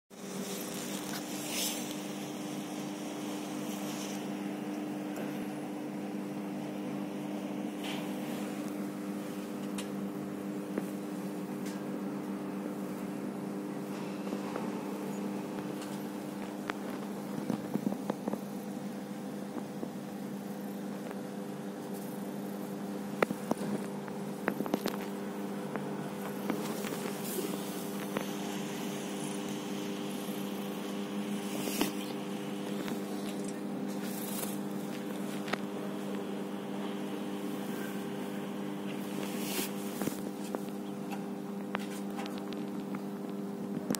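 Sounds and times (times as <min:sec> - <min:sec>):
transformer electrical hum: 0:00.1 - 0:43.9.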